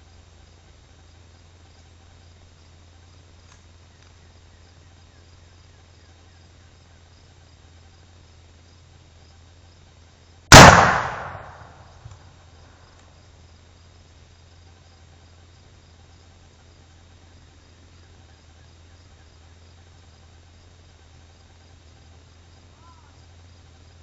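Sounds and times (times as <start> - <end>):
faint crickets chirping: 0.0 - 24.0.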